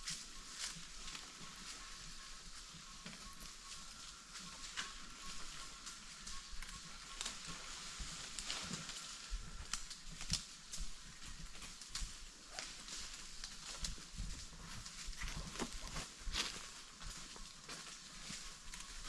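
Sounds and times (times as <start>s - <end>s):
twigs and leaves crackling: 0.0s - 19.0s.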